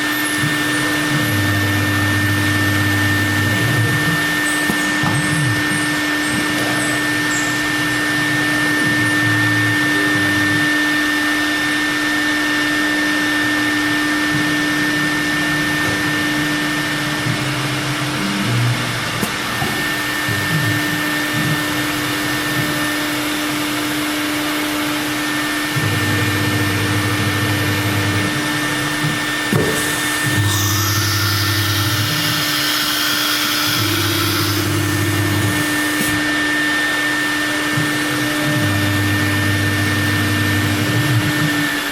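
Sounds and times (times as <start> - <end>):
cnc router high whine: 0.0 - 41.9.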